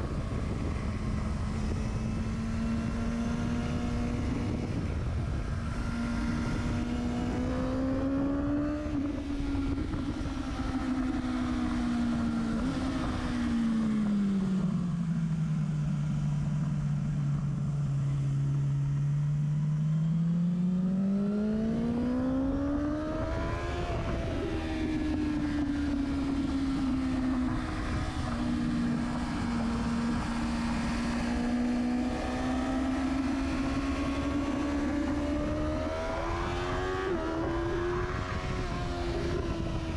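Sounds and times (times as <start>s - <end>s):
wind rushing over microphone: 0.0s - 15.4s, 20.8s - 39.9s
motorcycle engine and exhaust: 0.0s - 39.9s.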